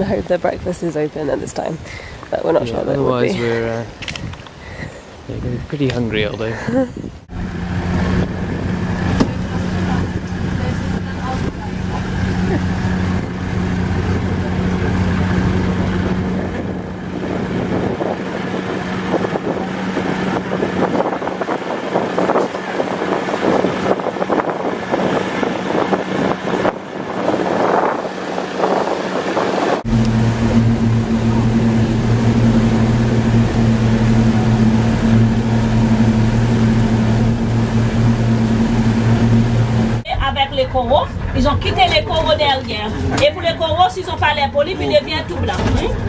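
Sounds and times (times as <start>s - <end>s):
rushing water: 0.0s - 40.1s
boat engine humming: 0.0s - 46.0s
wind buffeting microphone: 0.0s - 46.0s.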